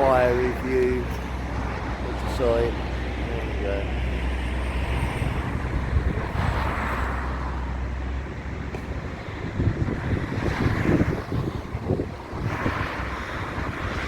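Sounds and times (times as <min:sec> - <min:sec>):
low engine drone: 0:00.0 - 0:14.0
road traffic passing: 0:00.0 - 0:14.0
wind buffeting microphone: 0:00.0 - 0:14.0.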